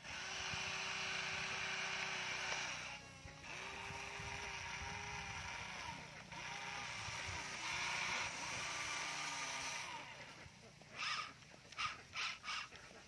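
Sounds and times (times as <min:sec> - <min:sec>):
toy excavator motors whining: 0:00.0 - 0:13.0.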